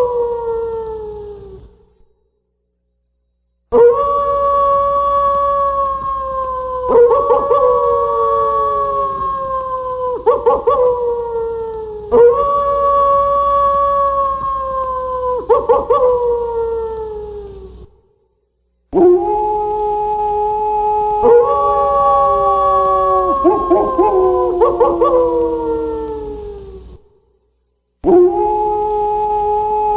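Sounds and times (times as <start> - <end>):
wolves howling: 0.0 - 1.8, 3.7 - 17.9, 18.9 - 27.0, 28.0 - 29.9.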